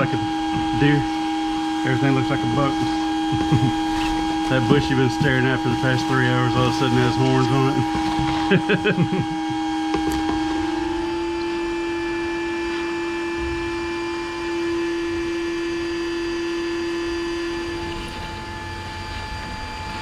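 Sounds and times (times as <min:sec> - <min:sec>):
vacuum motor whining: 0:00.0 - 0:20.0.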